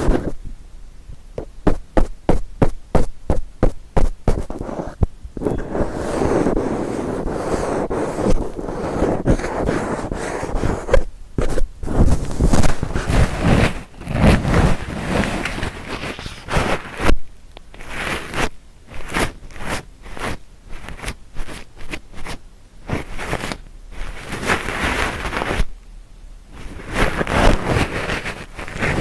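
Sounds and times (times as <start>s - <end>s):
ear tools scraping microphone: 0.0s - 0.4s, 1.4s - 17.2s, 17.8s - 25.7s, 26.6s - 29.0s.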